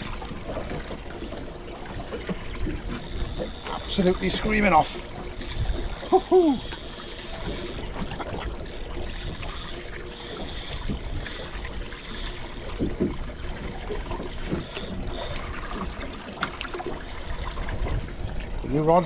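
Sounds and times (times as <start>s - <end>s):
fishing reel screaming: 0.0s - 0.5s, 1.1s - 17.8s
water washing around boat: 0.0s - 19.0s.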